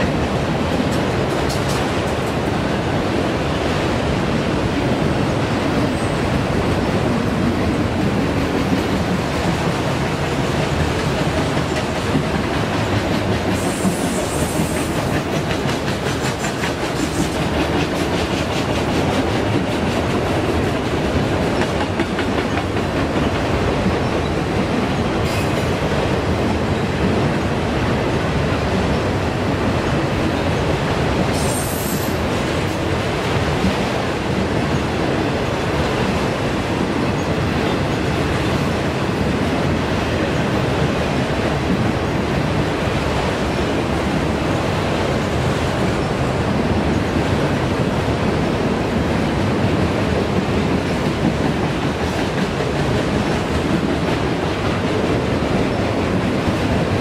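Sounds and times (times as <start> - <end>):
freight train rolling: 0.0 - 57.0.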